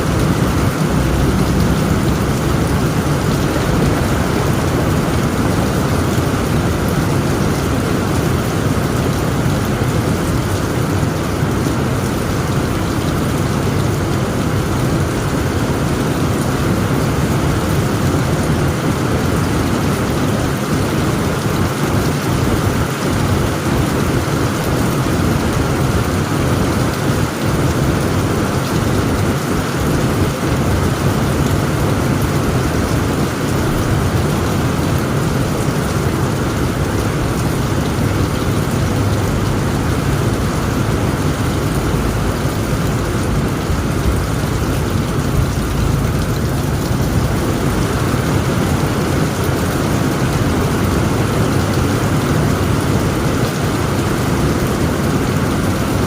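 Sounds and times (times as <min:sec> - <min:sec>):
heavy rain on tent roof: 0:00.0 - 0:56.0.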